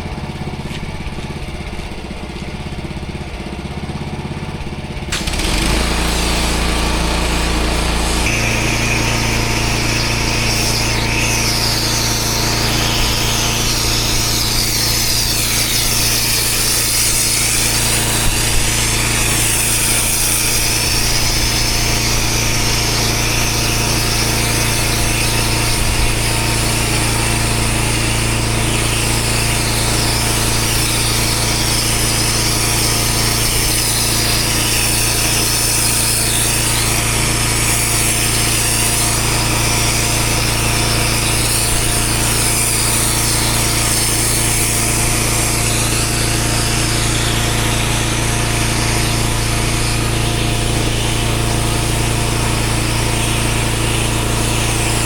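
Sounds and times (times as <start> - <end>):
pressure washer motor droning: 0.0 - 55.0
water jet hissing on paving: 5.1 - 55.0.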